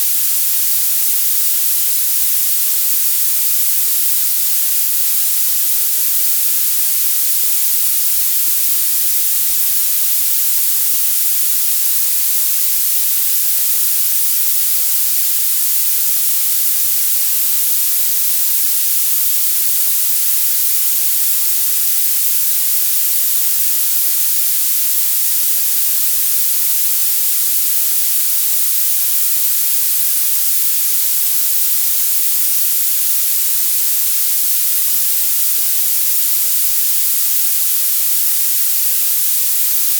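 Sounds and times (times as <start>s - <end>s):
high hiss of violet noise: 0.0s - 39.9s.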